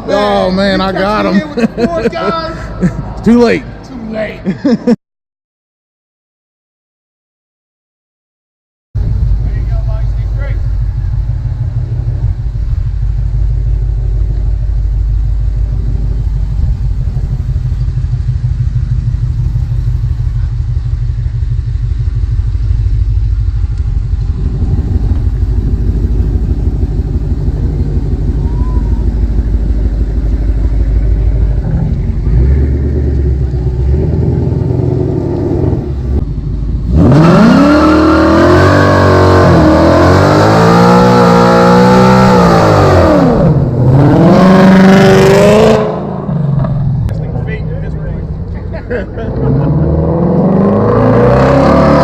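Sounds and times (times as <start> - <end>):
car engine idling: 0.0 - 4.9, 9.0 - 51.3
engine revving: 9.0 - 52.0.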